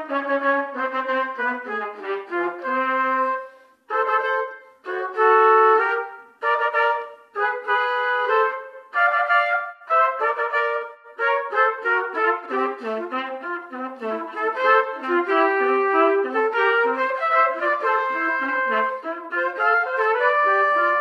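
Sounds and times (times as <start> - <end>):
trumpets playing a duet: 0.0 - 21.0.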